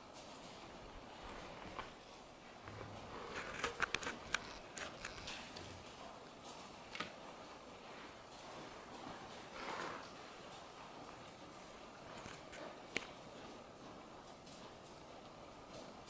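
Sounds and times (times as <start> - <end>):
horse walking on sand: 0.0 - 16.0.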